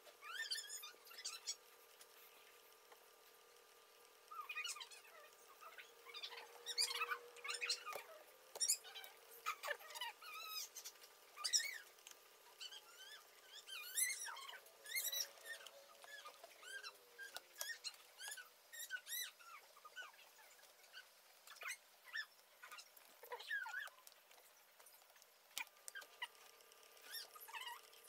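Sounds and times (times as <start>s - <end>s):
faint steady hum: 0.0s - 28.0s
small birds chirping: 0.2s - 28.0s.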